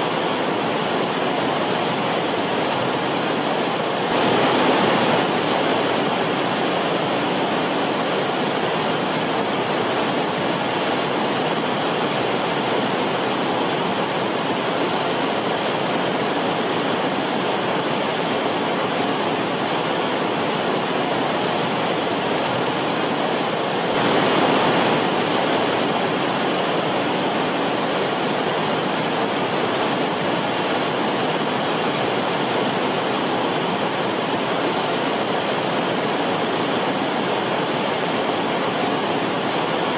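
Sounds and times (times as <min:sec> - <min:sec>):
stream water rushing and splashing: 0:00.0 - 0:39.9.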